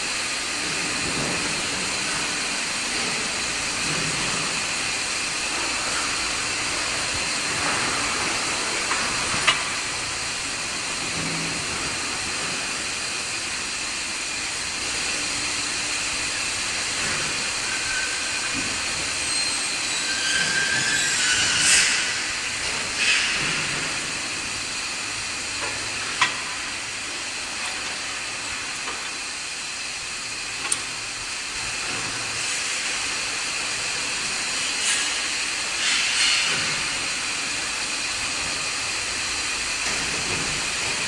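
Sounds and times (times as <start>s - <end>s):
hissing factory noise: 0.0s - 41.0s.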